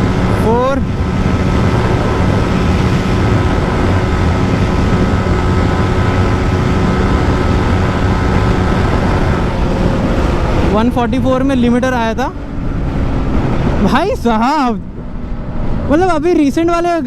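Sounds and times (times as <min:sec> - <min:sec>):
motorcycle engine at high revs: 0:00.0 - 0:16.3
wind rush on microphone: 0:00.0 - 0:17.0.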